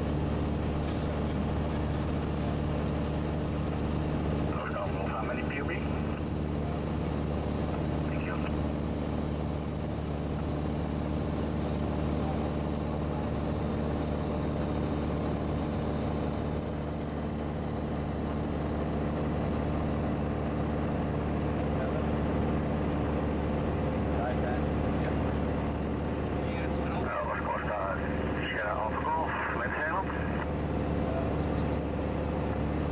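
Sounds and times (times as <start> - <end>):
light aircraft engine droning: 0.0 - 32.9.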